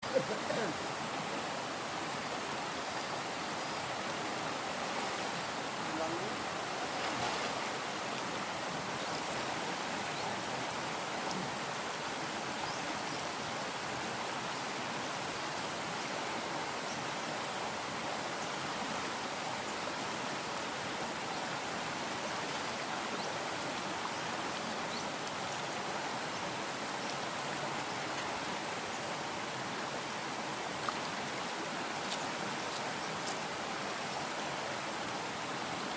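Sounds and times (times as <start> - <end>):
stream water rushing: 0.0 - 35.9.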